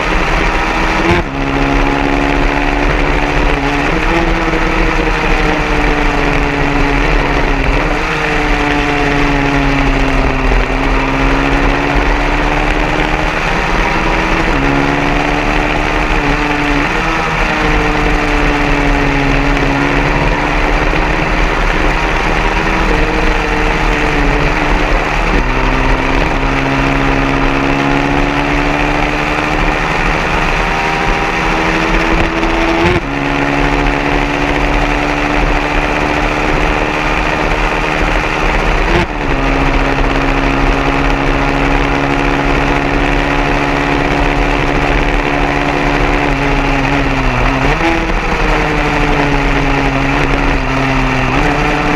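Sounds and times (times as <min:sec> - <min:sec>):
motorcycle engine running hard: 0:00.0 - 0:51.9.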